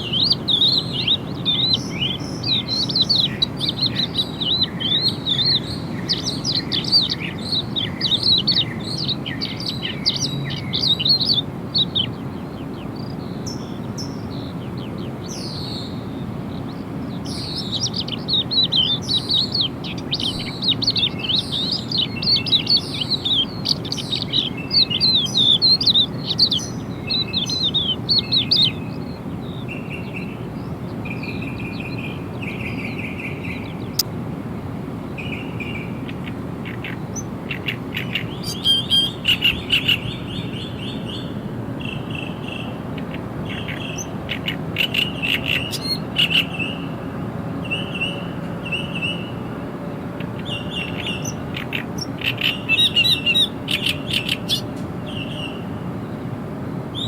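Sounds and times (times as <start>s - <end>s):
low background hum: 0.0s - 57.0s
songbirds chirping and singing: 0.0s - 57.0s.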